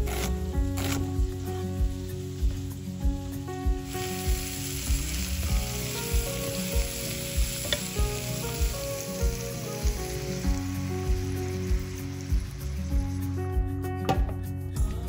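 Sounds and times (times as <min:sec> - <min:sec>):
cauliflower sizzling in oil: 0:00.0 - 0:13.6.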